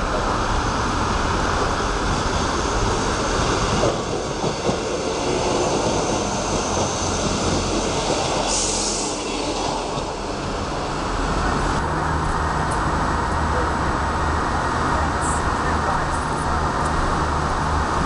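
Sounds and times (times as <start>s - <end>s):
train running past: 0.0s - 18.0s.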